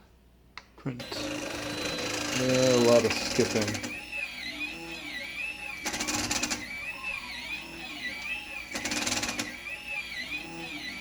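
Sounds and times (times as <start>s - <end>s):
motors rattling buzz: 1.0s - 11.0s
stepper motors whining: 1.0s - 11.0s.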